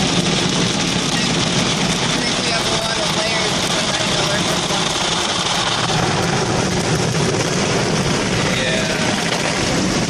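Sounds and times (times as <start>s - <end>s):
car wash rushing against car: 0.0s - 10.0s.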